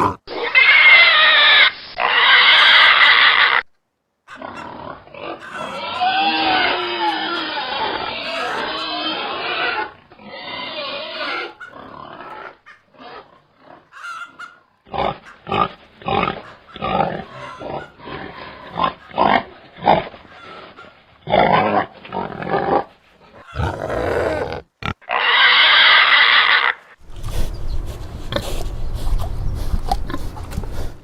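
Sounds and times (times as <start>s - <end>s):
pigs grunting: 0.0s - 1.2s, 4.3s - 31.0s.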